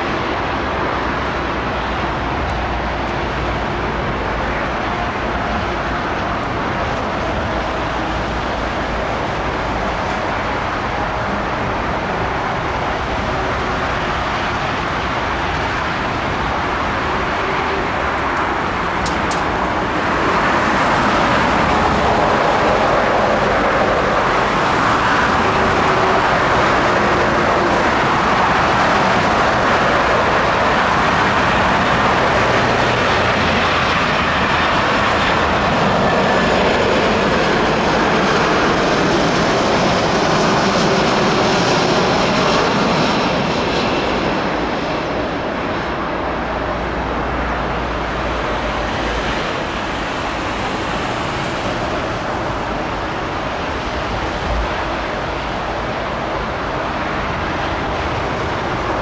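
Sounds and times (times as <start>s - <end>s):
jet engines on landing approach: 0.0s - 59.0s.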